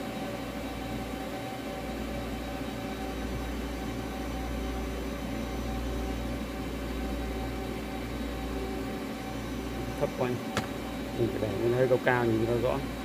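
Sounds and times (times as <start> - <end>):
machinery hum: 0.0 - 13.0.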